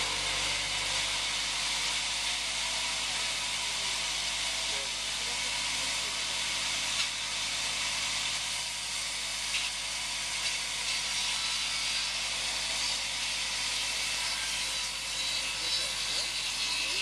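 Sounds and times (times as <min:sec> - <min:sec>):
band sawmill running: 0:00.0 - 0:17.0.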